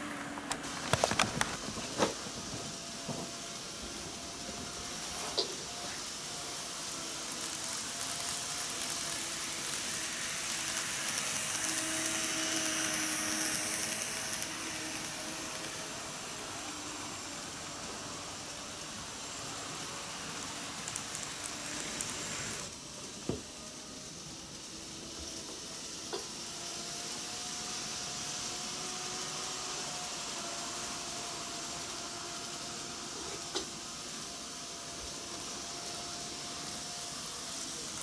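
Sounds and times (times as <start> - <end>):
model train motor hum: 0.0 - 38.0
wheels rolling on rails: 0.0 - 38.0.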